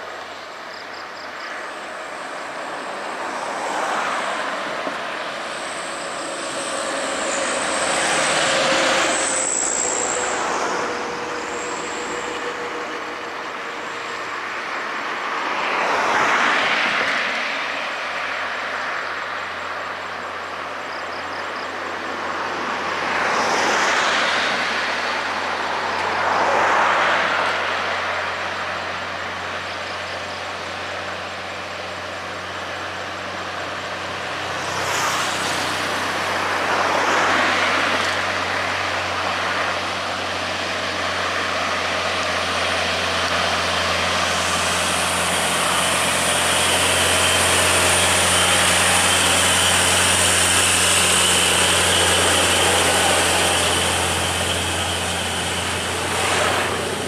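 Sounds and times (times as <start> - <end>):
diesel truck engine drone: 0.0 - 57.0
highway traffic passing: 0.0 - 57.0.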